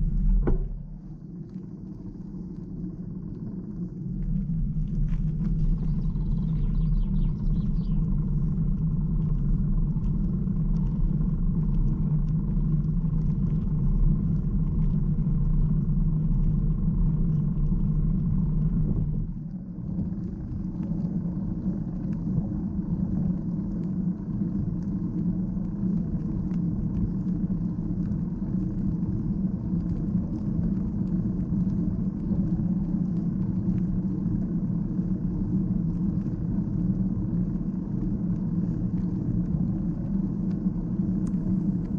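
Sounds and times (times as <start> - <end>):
wind buffeting microphone: 0.0 - 1.5, 3.8 - 41.9
bicycle tyres rolling on pavement: 0.0 - 41.9.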